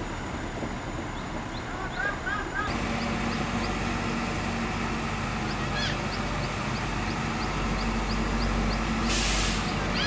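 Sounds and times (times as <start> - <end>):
bulldozer diesel engine running: 0.0 - 10.0.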